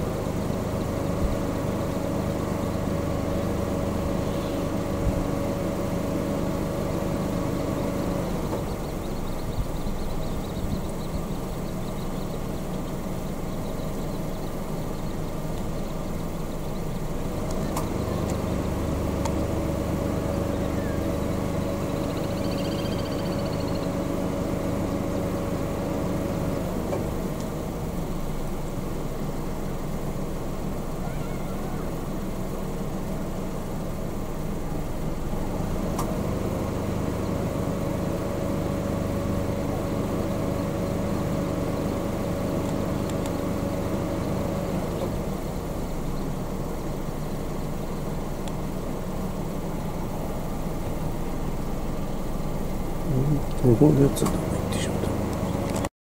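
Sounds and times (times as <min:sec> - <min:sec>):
engine hum with low rumble: 0:00.0 - 0:55.9
outdoor background noise: 0:00.0 - 0:55.9.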